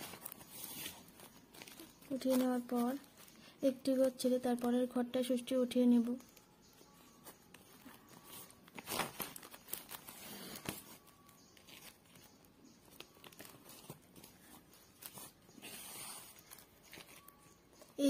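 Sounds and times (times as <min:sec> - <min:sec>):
plastic sack rustling: 0:00.0 - 0:04.7, 0:07.3 - 0:17.6.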